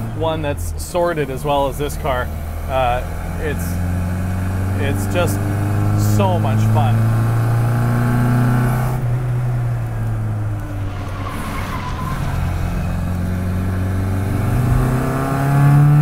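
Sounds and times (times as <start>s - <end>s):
car engine running buzzy: 0.0s - 16.0s.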